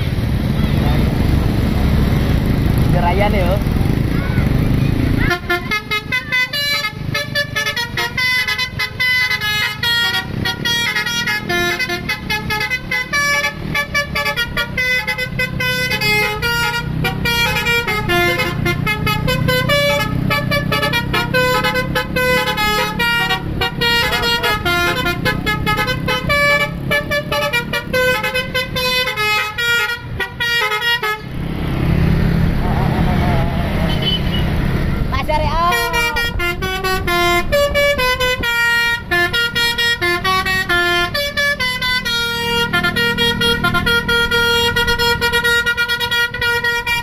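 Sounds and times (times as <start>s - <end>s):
bus engine rumble: 0.0s - 47.0s
bus horn playing a tune: 4.7s - 31.4s, 32.5s - 47.0s.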